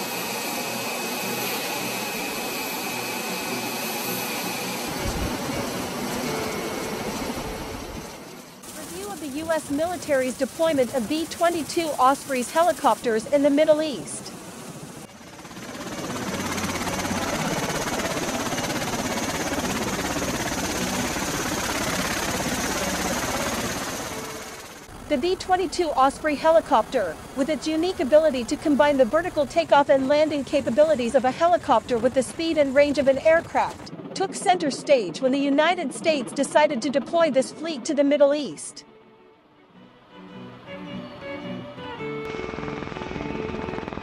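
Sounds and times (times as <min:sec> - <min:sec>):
rotor blades beating: 0:00.0 - 0:37.6, 0:42.0 - 0:44.0
aircraft turbine engines running: 0:00.0 - 0:38.8, 0:39.4 - 0:44.0.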